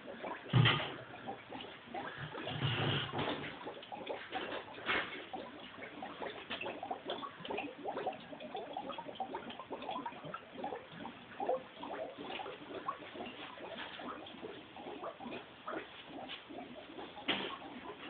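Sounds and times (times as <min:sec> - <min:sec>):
airlocks bubbling: 0:00.0 - 0:18.0.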